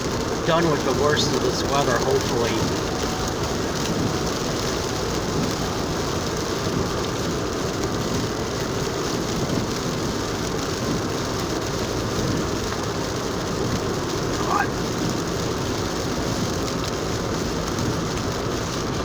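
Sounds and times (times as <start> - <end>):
rain falling on car: 0.0 - 19.0
tyres on wet road: 0.0 - 19.0.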